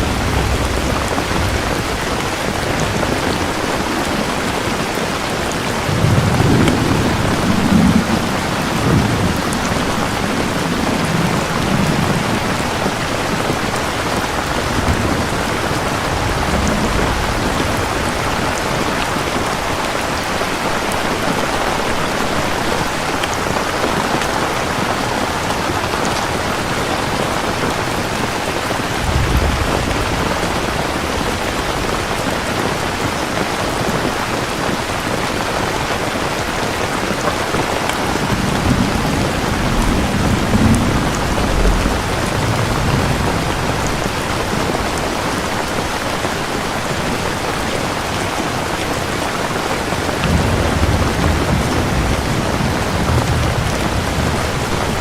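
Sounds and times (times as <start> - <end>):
heavy rain: 0.0 - 55.0
thunder rumbling: 0.0 - 55.0.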